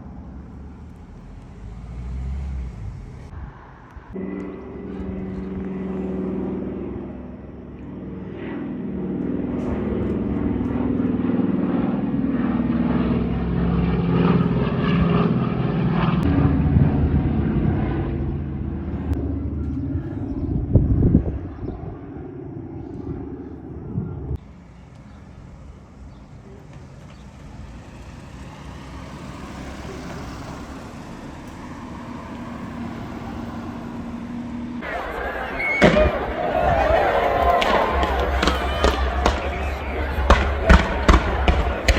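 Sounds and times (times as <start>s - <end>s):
propeller aircraft engines droning: 0.0s - 41.9s.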